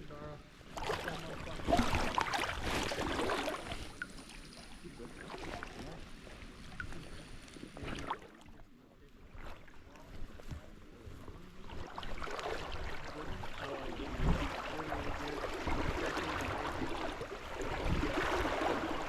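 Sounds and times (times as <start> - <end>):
water rushing and splashing: 0.6 - 8.5, 11.3 - 19.0.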